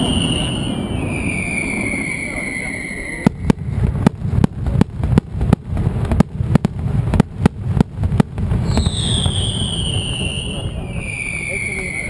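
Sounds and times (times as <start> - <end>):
firecrackers banging rhythmically: 0.0 - 2.0, 3.2 - 11.5.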